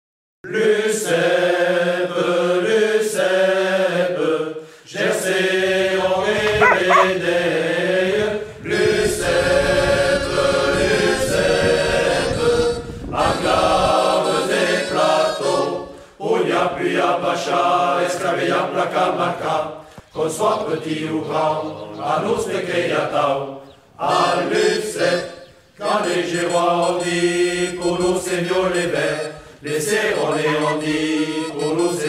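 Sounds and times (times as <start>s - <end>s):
voices singing a chant-like song: 0.5s - 32.0s.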